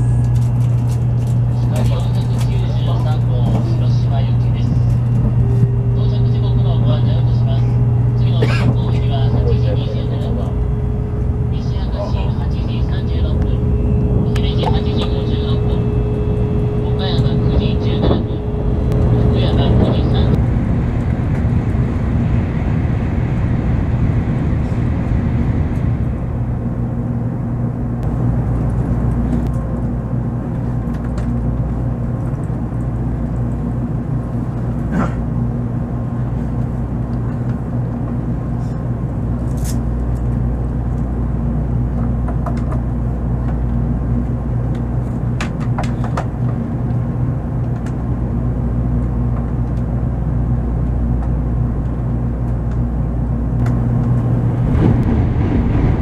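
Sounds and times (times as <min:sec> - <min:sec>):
train carriage rumble and hum: 0:00.0 - 0:56.0.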